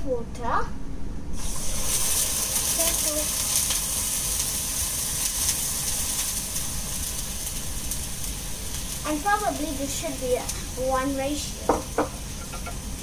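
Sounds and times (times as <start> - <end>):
water sizzling in hot pan: 1.4 - 13.0.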